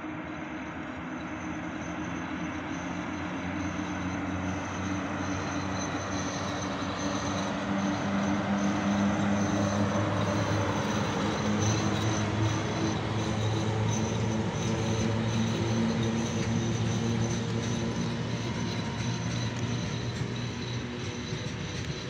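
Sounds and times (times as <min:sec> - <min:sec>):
faint high whine: 0:00.0 - 0:22.0
locomotive motor and blower hum: 0:00.2 - 0:22.0
wheels on rails: 0:02.2 - 0:22.0.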